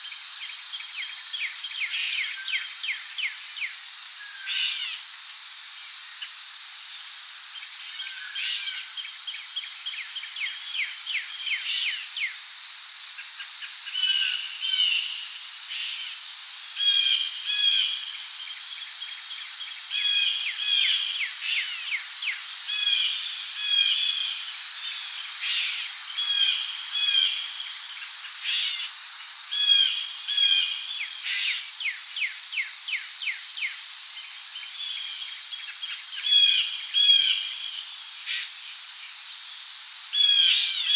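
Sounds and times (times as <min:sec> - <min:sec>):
crickets droning: 0:00.0 - 0:40.9.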